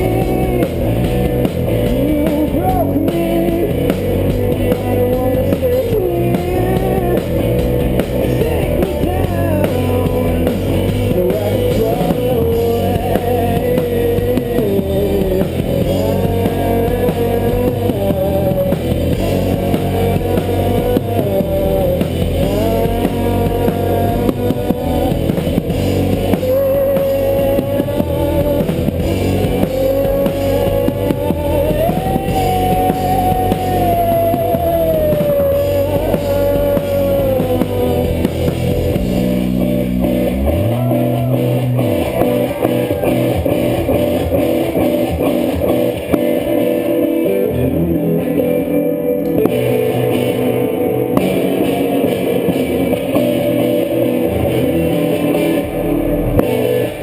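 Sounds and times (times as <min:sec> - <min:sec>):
bass guitar: 0:00.0 - 0:57.0
drums: 0:00.0 - 0:57.0
lead guitar bending notes: 0:00.0 - 0:57.0.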